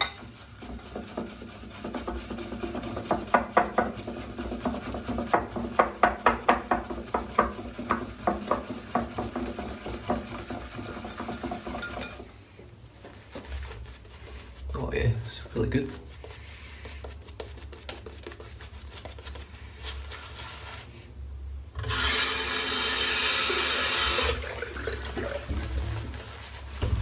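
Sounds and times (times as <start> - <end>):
shaving brush whisking lather: 0.0 - 20.9, 21.9 - 27.0.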